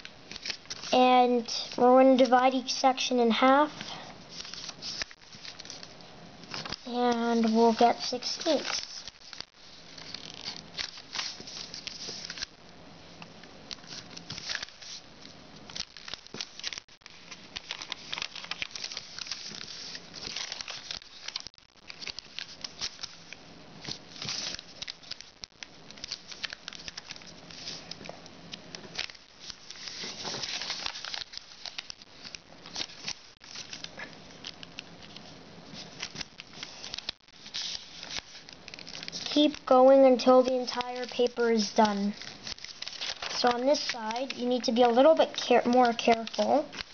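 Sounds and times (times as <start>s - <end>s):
paper crinkling and creasing: 0.0s - 12.5s, 13.7s - 46.9s.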